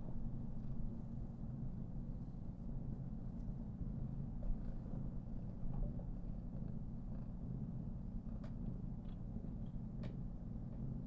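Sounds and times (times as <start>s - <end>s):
cat purring: 0.4s - 11.0s.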